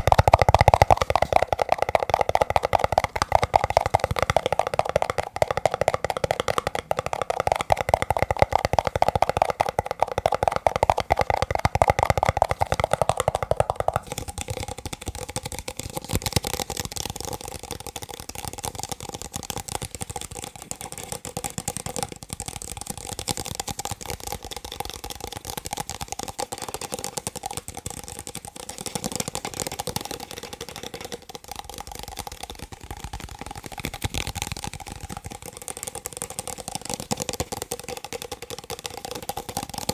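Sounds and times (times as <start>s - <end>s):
tapping on plastic cups: 0.0s - 39.9s.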